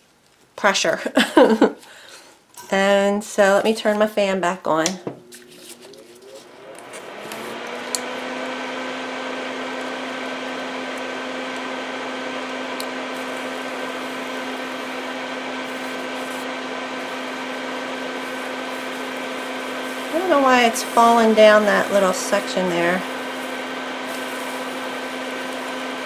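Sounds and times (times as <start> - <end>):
electric fan running: 1.2 - 26.0.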